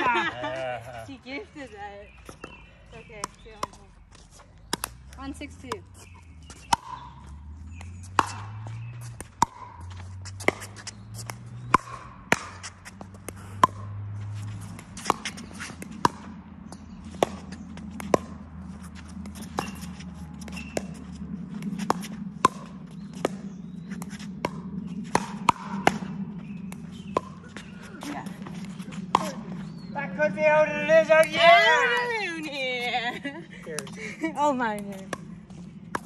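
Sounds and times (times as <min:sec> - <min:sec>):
ball bouncing on hard court: 0:02.2 - 0:29.9, 0:34.6 - 0:36.0.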